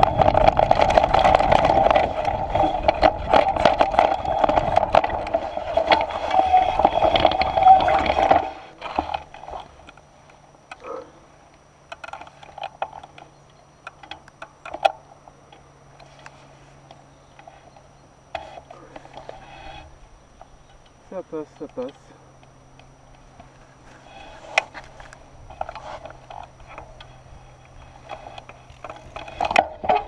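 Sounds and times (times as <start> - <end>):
bike rattling over rough ground: 0.0 - 30.0
knobby tyre noise on dirt: 0.0 - 30.0
low steady hum: 0.0 - 30.0
wind: 0.0 - 30.0
faint scattered ticks: 0.1 - 29.7.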